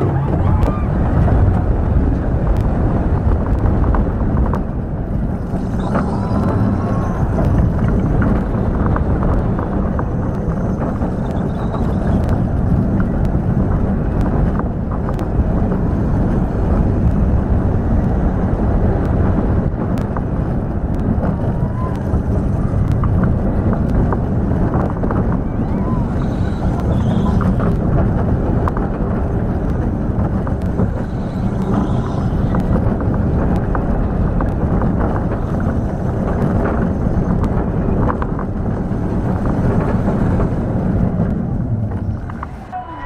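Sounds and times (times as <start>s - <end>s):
roller coaster wheels rumbling: 0.0s - 43.0s
wind rushing over microphone: 0.0s - 43.0s.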